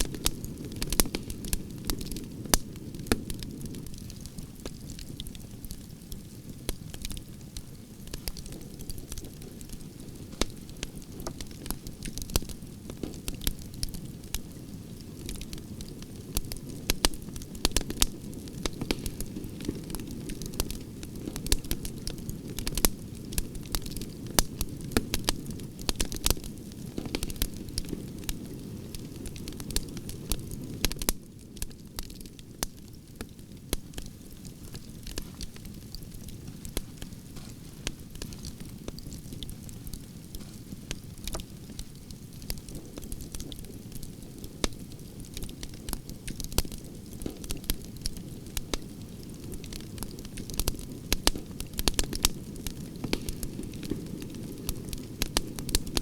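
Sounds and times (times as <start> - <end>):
campfire crackling and popping: 0.0 - 56.0
low rumble of flames: 0.0 - 56.0.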